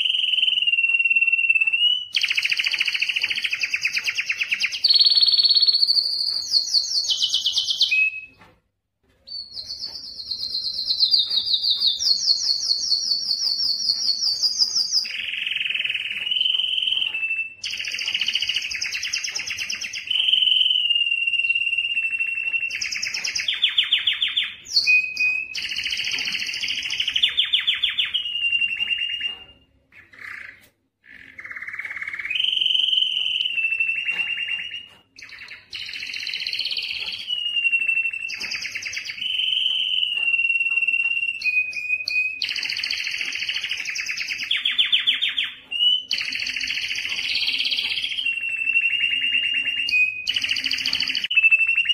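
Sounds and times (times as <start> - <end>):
canary singing trills: 0.0 - 8.6, 9.2 - 51.9.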